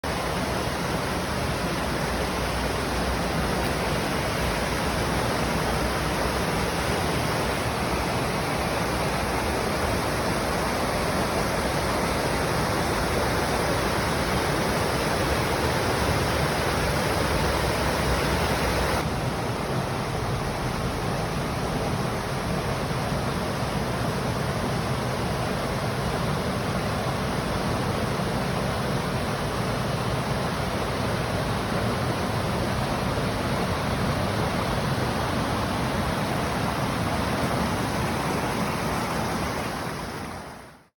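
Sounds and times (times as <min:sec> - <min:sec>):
flowing water rushing: 0:00.0 - 0:40.9.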